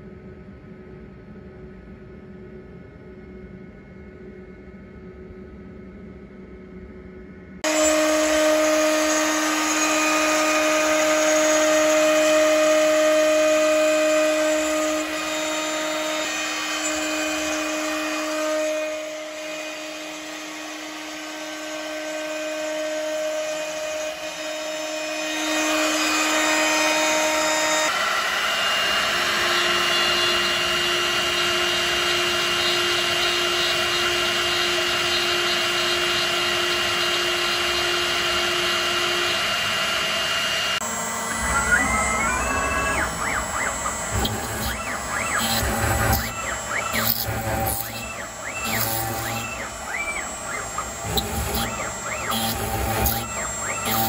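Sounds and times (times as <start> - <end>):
cnc router spindle whining: 7.6 - 54.0
end mill cutting metal: 7.6 - 54.0.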